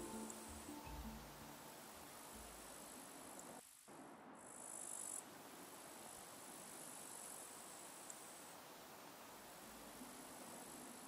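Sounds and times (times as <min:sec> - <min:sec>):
crickets chirring: 0:00.0 - 0:03.7, 0:04.4 - 0:11.0.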